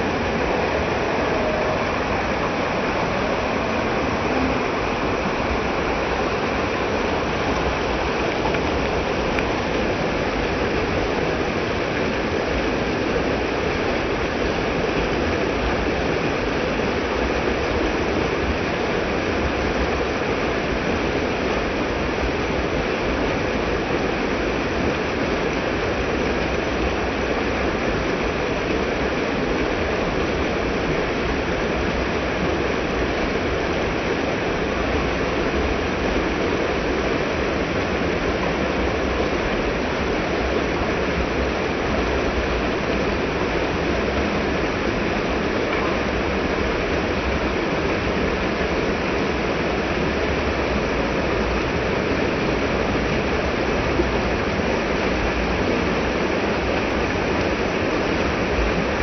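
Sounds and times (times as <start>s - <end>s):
stream tumbling over rocks: 0.0s - 59.0s.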